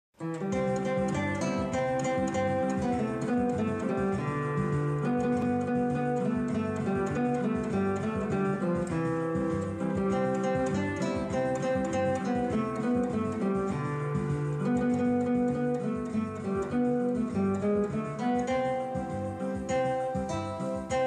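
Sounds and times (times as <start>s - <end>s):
acoustic guitar tune: 0.2s - 21.0s.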